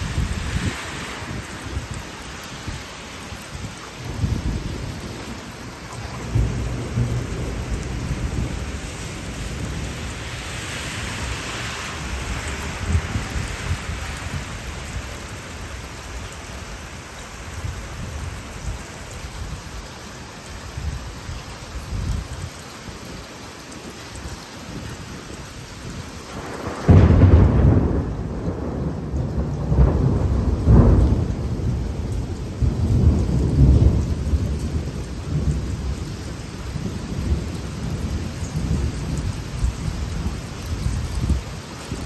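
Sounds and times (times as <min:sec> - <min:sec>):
thunder clap and rumble: 0:00.0 - 0:19.6, 0:24.7 - 0:42.0
heavy rain falling: 0:00.0 - 0:42.0.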